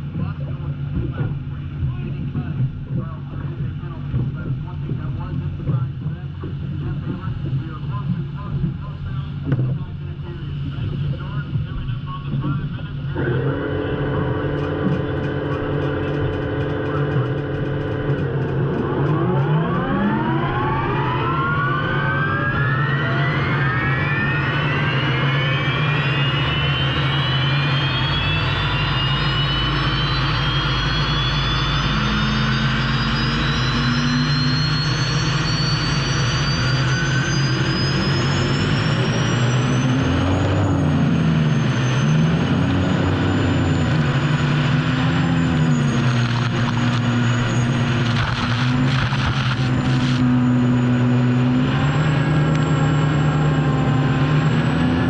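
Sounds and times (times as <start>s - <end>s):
turbine engine whine: 0.0s - 55.0s
rushing noise: 0.7s - 55.0s.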